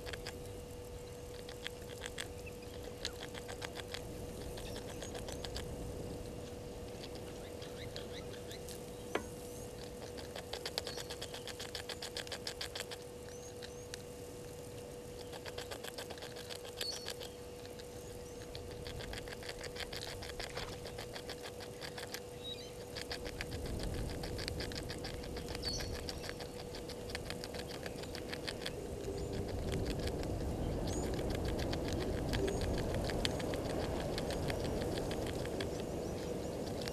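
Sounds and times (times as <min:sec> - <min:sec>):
faint steady hum: 0:00.0 - 0:36.9
rapid high-pitched clicking: 0:01.2 - 0:05.7, 0:09.8 - 0:14.0, 0:15.2 - 0:36.9.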